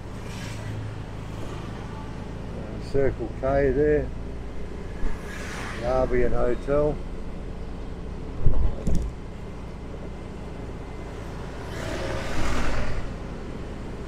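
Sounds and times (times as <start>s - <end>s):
passing traffic: 0.0s - 14.0s
road noise: 0.0s - 14.0s.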